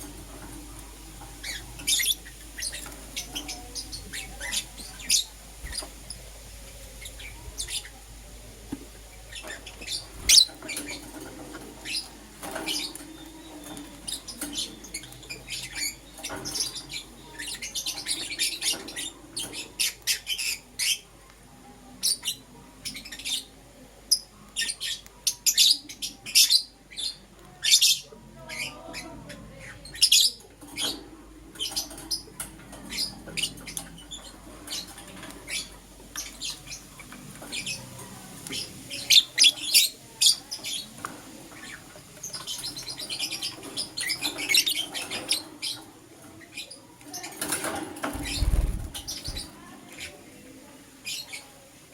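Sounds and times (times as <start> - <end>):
lovebirds chirping and squawking: 0.0 - 51.8.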